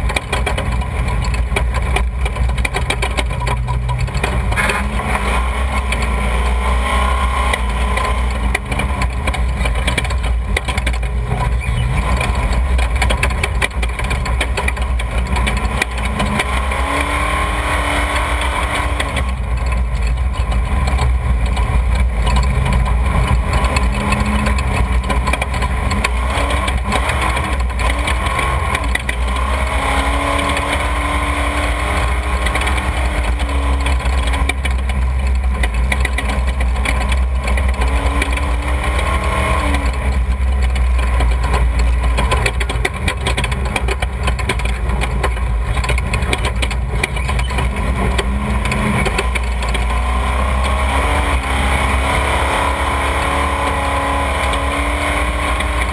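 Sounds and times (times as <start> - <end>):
knocks and rattles: 0.0 - 55.9
off-road vehicle engine revving: 0.0 - 55.9.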